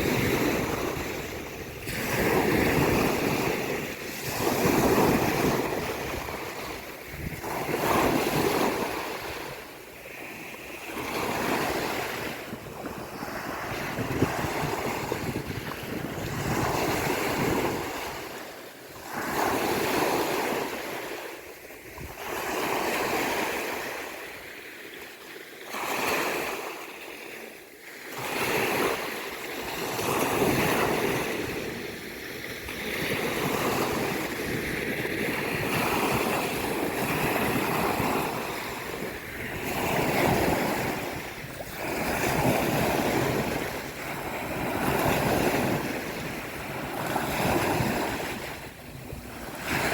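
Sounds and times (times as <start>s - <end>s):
sea waves washing onto beach: 0.0s - 49.9s.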